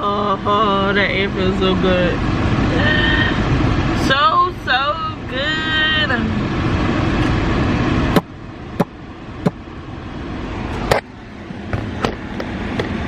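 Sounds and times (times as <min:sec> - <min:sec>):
air conditioning blowing from vents: 0:00.0 - 0:13.0.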